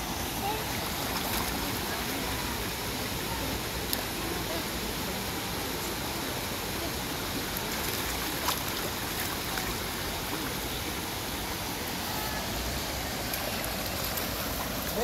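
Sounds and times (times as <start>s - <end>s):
stream flowing over stones: 0.0s - 15.0s.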